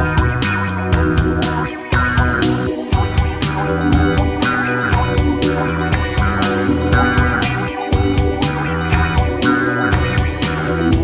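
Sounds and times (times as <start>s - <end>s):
guitar over bass with beat: 0.0s - 11.0s.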